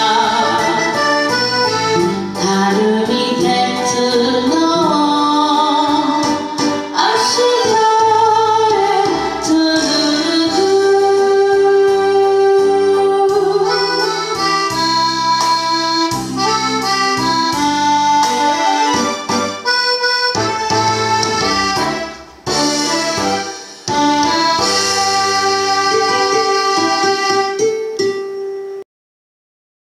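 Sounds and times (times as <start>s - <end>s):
instrumental music: 0.0s - 28.8s.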